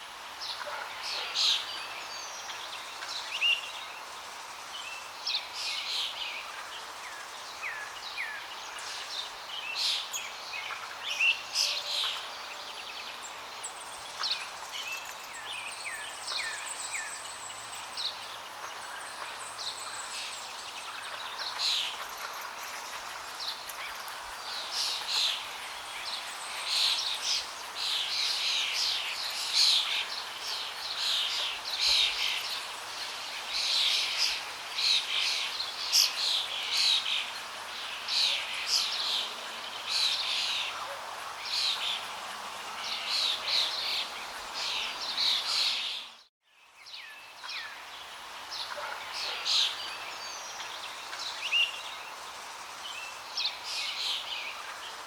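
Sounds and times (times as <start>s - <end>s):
birds singing and calling: 0.4s - 55.0s.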